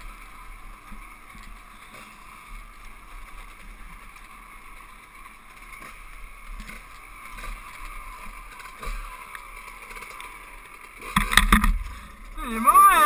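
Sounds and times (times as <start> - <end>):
constant hiss: 0.0 - 13.0
muffled two-stroke engine running: 0.0 - 13.0.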